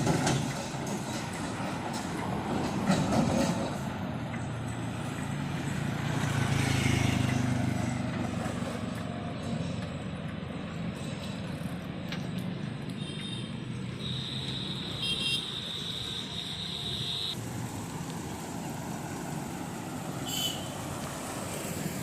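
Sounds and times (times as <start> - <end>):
heavy vehicle engine hum: 0.0 - 22.0
road traffic passing: 0.0 - 22.0.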